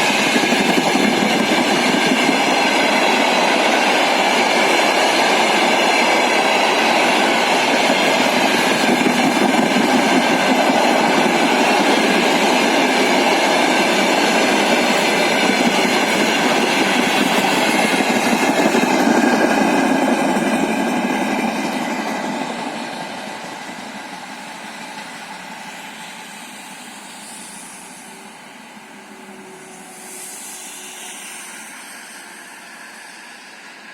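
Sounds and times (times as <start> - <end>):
freight train wheels rumbling on rails: 0.0 - 33.9.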